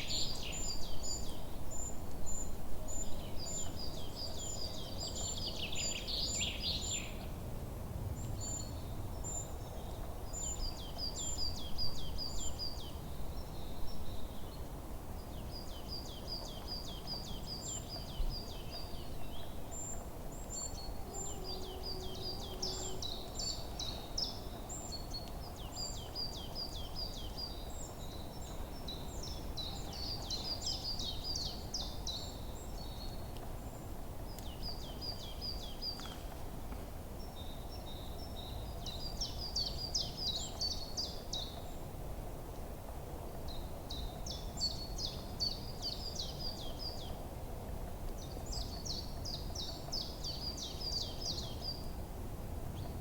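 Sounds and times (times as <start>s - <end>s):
low background noise: 0.0s - 53.0s.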